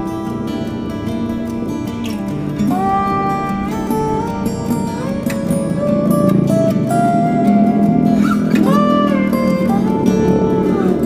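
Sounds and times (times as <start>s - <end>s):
melody of long held notes: 0.0s - 11.0s
plucked-string accompaniment: 0.0s - 11.0s.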